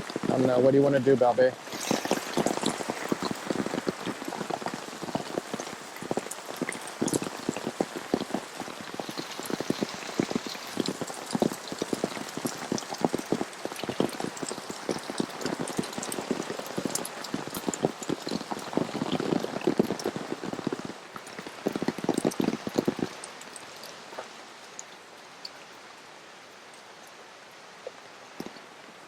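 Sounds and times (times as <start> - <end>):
big raindrops hitting nearby: 0.0 - 29.0
heavy rain: 0.0 - 29.0.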